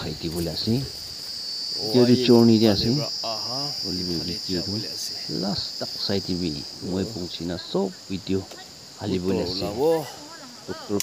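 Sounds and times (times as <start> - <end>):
man talking: 0.0 - 1.0, 1.8 - 11.0
insects chirring: 0.0 - 11.0.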